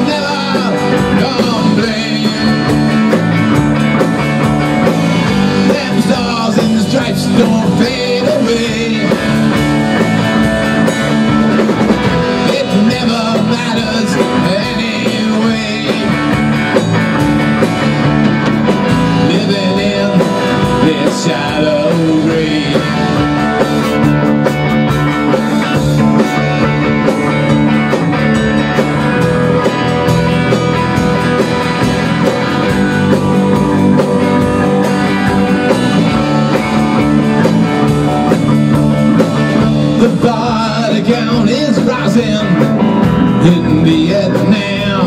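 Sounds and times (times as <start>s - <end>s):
bass guitar: 0.0s - 45.0s
drum kit: 0.0s - 45.0s
electric guitar: 0.0s - 45.0s.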